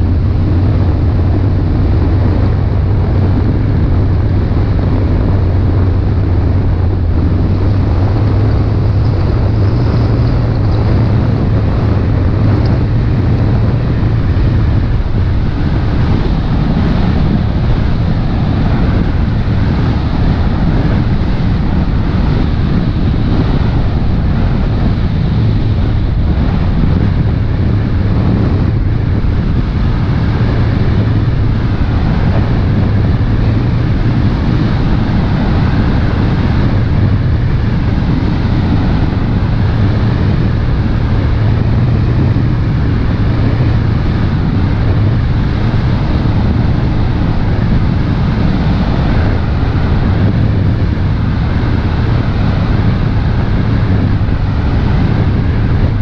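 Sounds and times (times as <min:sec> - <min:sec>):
boat engine drone: 0:00.0 - 0:56.0
wind on microphone: 0:00.0 - 0:56.0.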